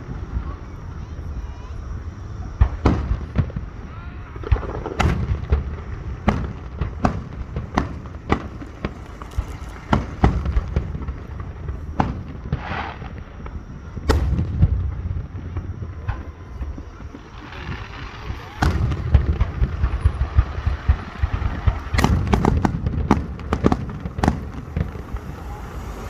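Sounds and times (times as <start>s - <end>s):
fireworks bangs: 0.0s - 26.0s
hissing crackle: 0.0s - 26.0s
low rumble of fireworks: 0.0s - 26.0s.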